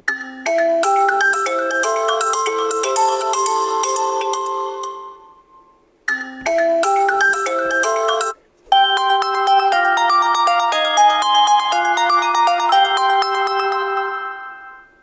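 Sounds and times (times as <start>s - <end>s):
chiming ringtone melody: 0.1s - 15.0s
short ringtone tune: 0.1s - 15.0s.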